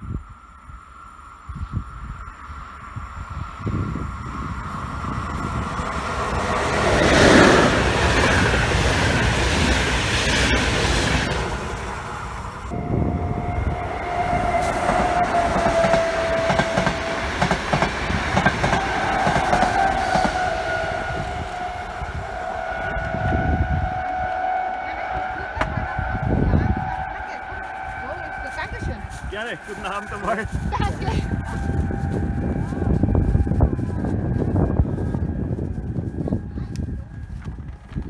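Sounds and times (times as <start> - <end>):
high wavering whine: 0.0 - 38.0
train wheel clatter: 4.3 - 38.0.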